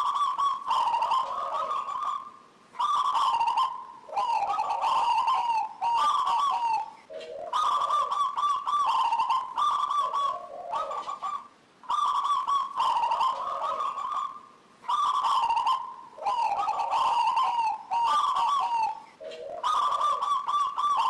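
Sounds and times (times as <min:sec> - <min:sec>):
dove cooing: 0:00.0 - 0:21.0.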